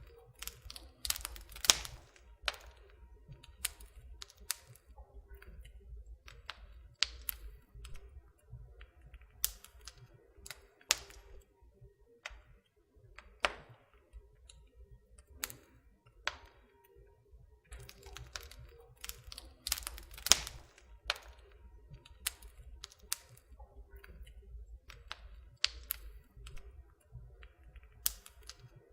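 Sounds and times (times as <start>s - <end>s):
low steady fire rumble: 0.0s - 28.9s
wood fire crackling and popping: 0.0s - 28.9s.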